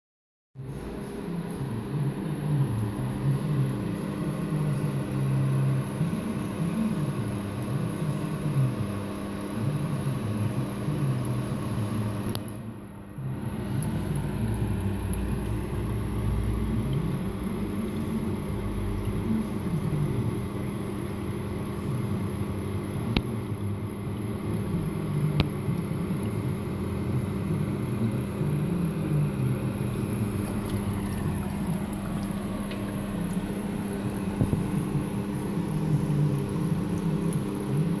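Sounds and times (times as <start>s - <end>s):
low mechanical hum: 0.6s - 38.0s.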